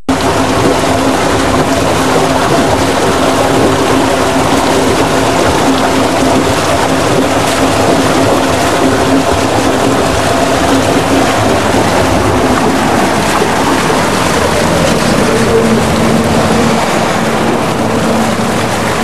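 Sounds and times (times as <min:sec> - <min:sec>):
water rushing over weir: 0:00.0 - 0:19.0.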